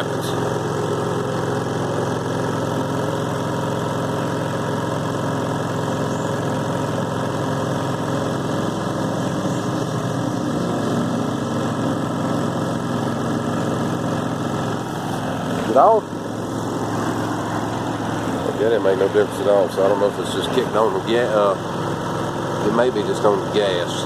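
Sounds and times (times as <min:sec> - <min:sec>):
generator engine hum: 0:00.0 - 0:24.0.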